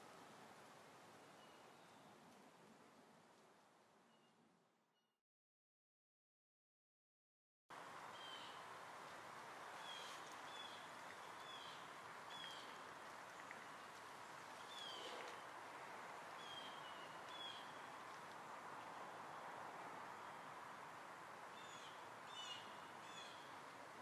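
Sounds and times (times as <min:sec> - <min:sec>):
faint outdoor background hiss: 0:00.0 - 0:05.1, 0:07.7 - 0:24.0.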